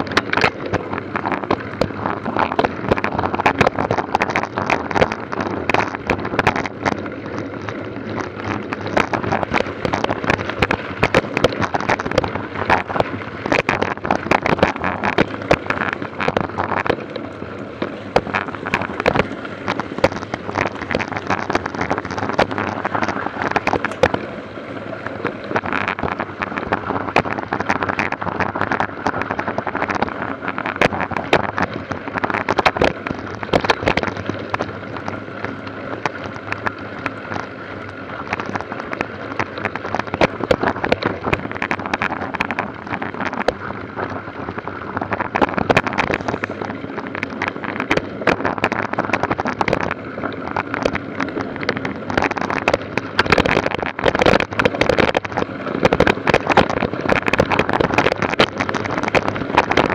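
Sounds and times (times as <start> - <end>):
steady vehicle hum: 0.0 - 59.9.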